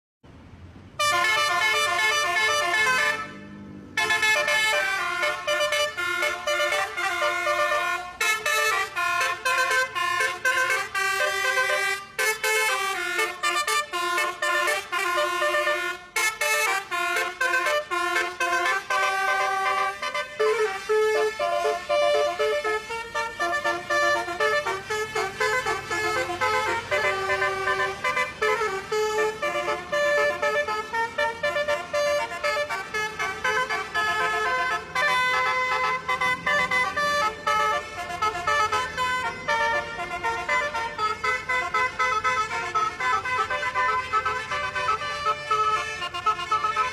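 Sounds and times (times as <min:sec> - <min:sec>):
bus horn playing a melody: 0:01.0 - 0:46.9.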